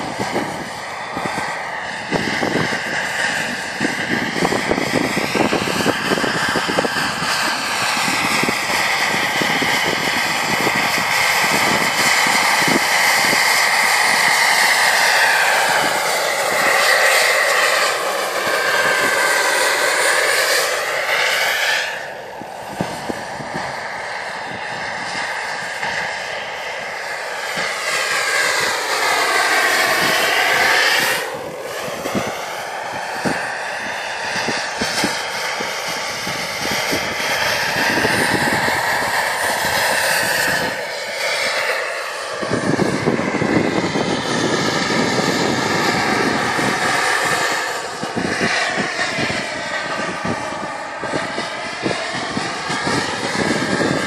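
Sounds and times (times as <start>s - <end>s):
helicopter rotor noise: 0.0s - 54.0s
high turbine whine: 0.0s - 54.0s.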